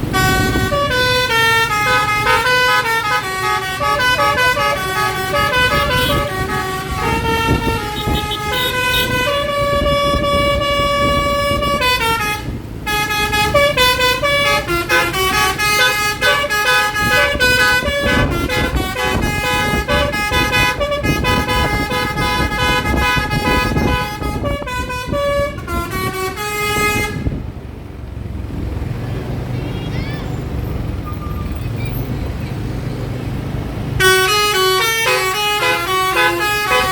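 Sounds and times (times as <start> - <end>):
multi-tone horn playing a tune: 0.1 - 27.4, 34.0 - 36.9.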